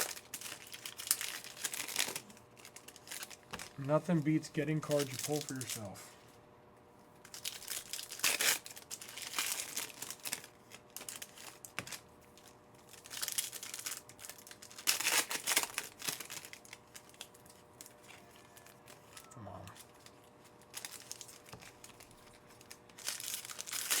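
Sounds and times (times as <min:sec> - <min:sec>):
wrappers crinkled and torn: 0:00.0 - 0:06.2, 0:07.2 - 0:24.0.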